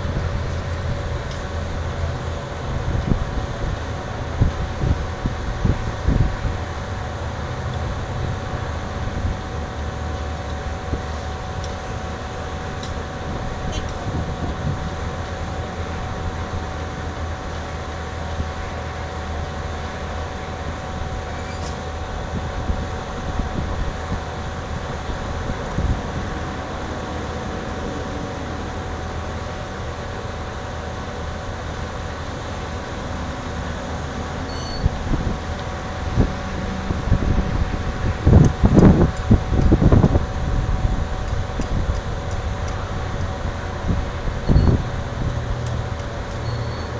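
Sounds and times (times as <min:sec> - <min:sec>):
drill rig engine drone: 0:00.0 - 0:46.9
thin steady whine: 0:00.0 - 0:46.9.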